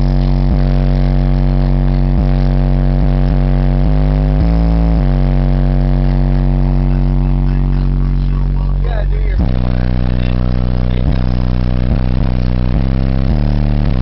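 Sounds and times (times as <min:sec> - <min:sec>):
distorted deep subwoofer bass: 0:00.0 - 0:14.0.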